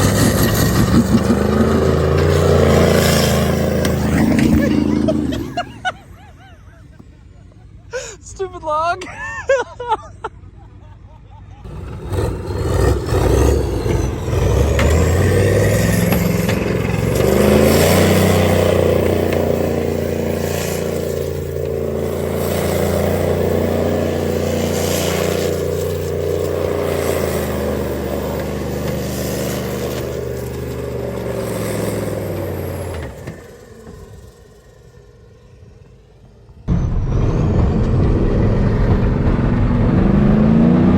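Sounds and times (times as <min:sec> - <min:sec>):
truck engine revving at high revs: 0:00.0 - 0:07.4, 0:11.6 - 0:36.0, 0:36.7 - 0:40.9.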